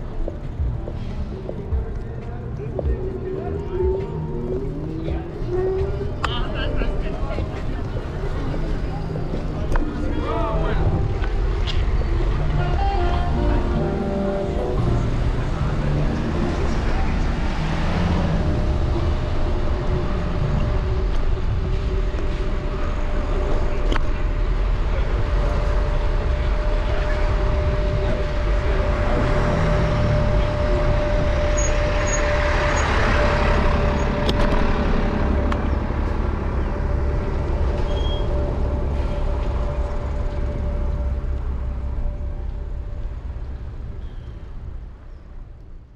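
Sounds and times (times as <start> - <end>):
constant whine: 0.0 - 45.9
scooter riding rumble: 0.0 - 45.9.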